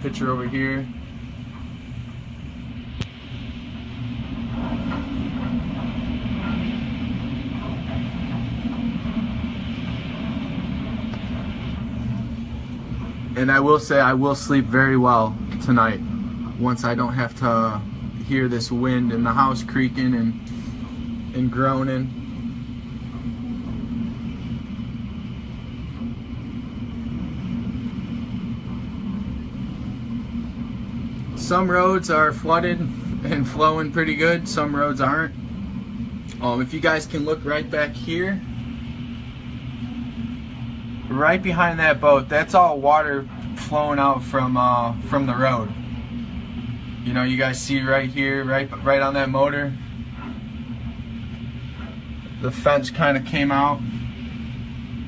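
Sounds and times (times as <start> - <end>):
strong wind rumbling against house: 0.0 - 55.0.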